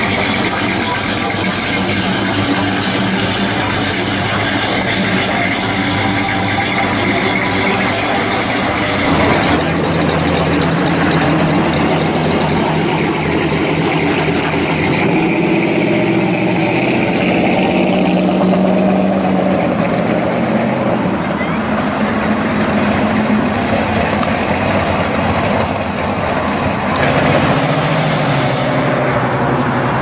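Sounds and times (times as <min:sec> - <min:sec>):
car engines idling and running: 0:00.0 - 0:30.0.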